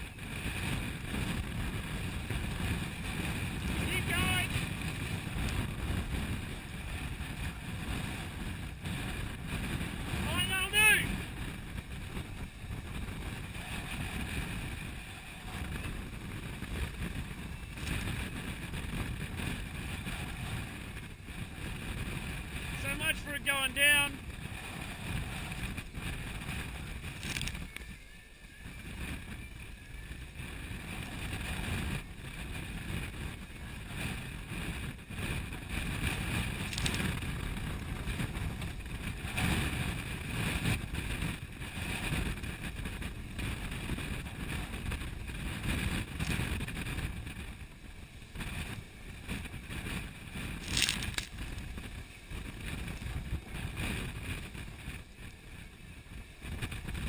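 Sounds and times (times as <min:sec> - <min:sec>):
strong wind buffeting microphone: 0:00.0 - 0:57.0.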